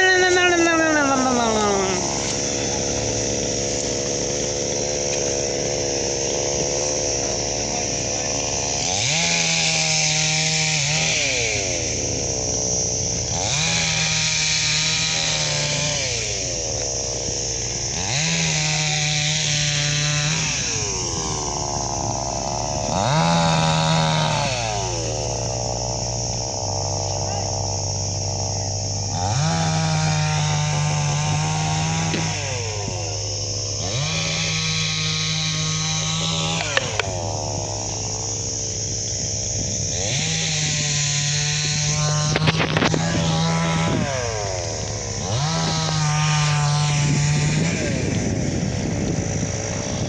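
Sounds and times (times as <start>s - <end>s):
diesel engine revving: 0.0s - 50.0s.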